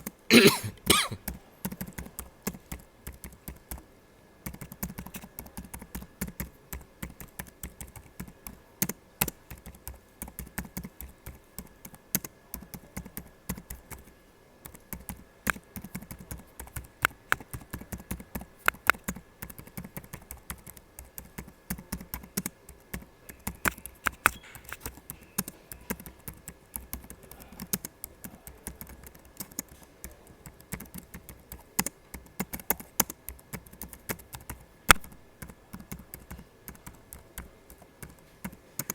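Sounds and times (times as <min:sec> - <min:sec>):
typing on laptop keyboard: 0:01.2 - 0:38.9.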